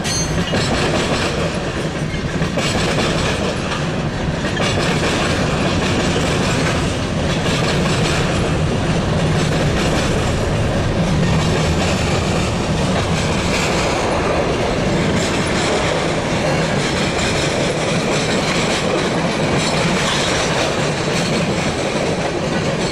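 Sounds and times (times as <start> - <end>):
train cars rolling past: 0.0 - 22.9
wheels clicking over rail joints: 0.0 - 22.9.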